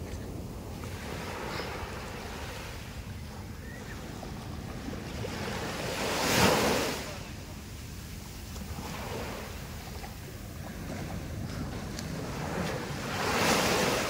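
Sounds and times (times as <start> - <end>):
small waves breaking on shore: 0.0 - 14.0
wind rumbling on microphone: 0.0 - 14.0.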